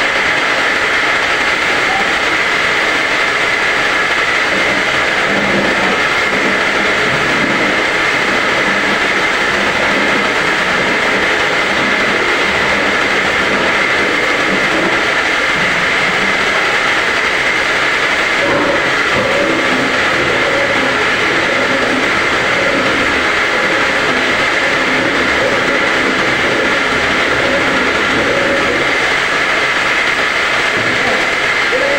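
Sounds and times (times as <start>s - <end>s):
high whine: 0.0s - 31.9s
washing machine whirring: 0.0s - 31.9s.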